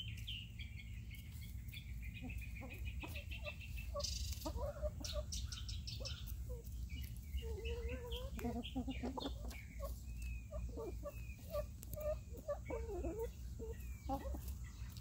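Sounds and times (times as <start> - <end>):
bird high chirps: 0.0 - 15.0
hen scratching dirt: 0.0 - 15.0
hens clucking softly: 0.2 - 15.0.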